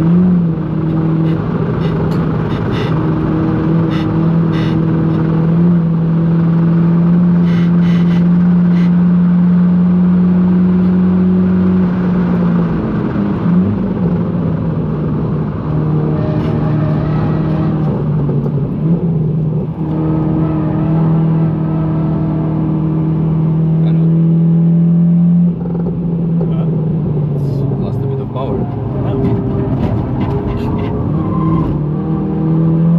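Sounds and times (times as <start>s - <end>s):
car engine pulling hard: 0.0s - 32.9s
road and tyre noise: 0.0s - 32.9s.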